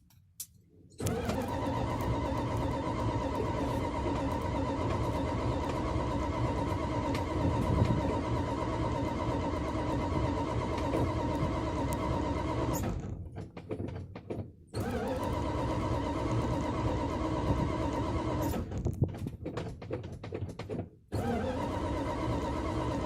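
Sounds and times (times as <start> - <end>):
engine running rough and sputtering: 1.0 - 13.3, 14.8 - 19.6, 21.2 - 23.0.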